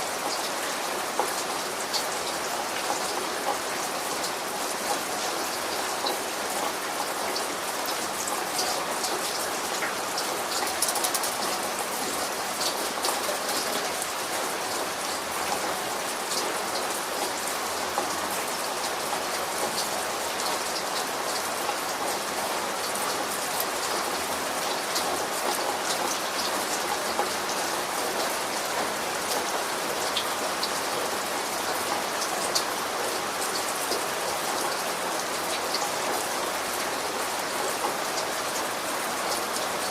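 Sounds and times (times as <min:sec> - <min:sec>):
rain drops pattering on a surface: 0:00.0 - 0:39.9.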